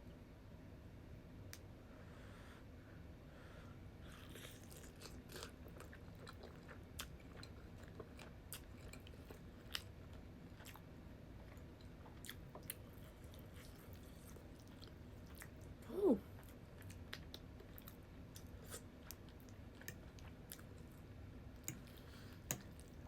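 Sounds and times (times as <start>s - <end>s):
chewing food: 4.1s - 23.0s.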